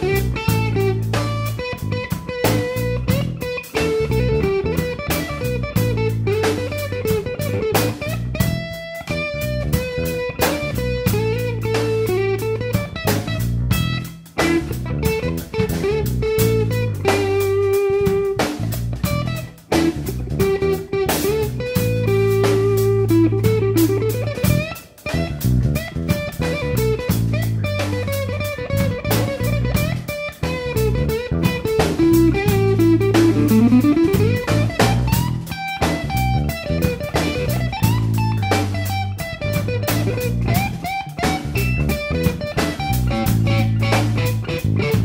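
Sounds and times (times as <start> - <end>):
bass: 0.0 - 45.0
electric guitar sliding: 0.0 - 45.0
steady drum beat: 0.0 - 45.0.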